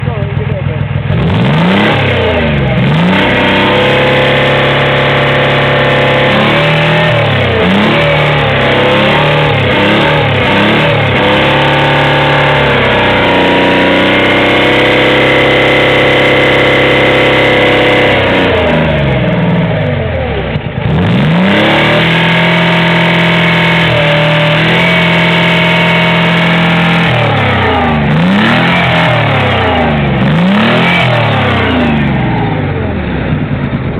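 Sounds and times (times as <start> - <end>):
engine revving: 0.0 - 33.9.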